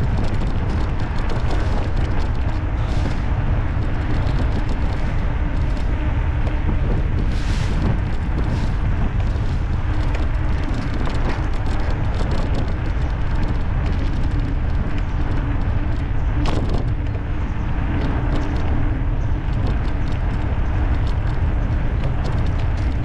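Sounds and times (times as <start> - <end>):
light ticks from bike: 0.0 - 6.5, 7.2 - 23.0
faint electric motor hum: 0.0 - 23.0
wind rumble on microphone: 0.0 - 23.0.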